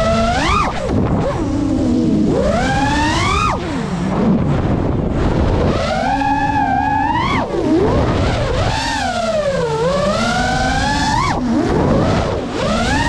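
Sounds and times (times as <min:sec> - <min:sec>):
drone motors whining: 0:00.0 - 0:13.0
wind on microphone: 0:00.0 - 0:13.0.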